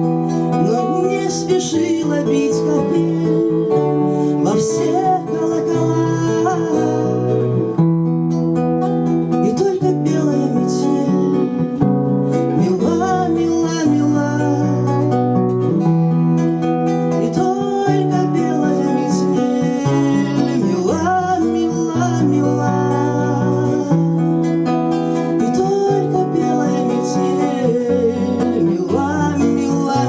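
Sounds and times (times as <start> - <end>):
acoustic guitar song: 0.0 - 30.0.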